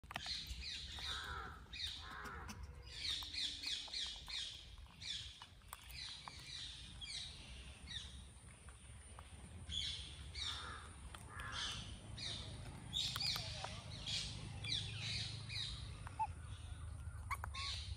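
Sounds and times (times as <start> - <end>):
birds chirping and squawking: 0.0 - 17.9.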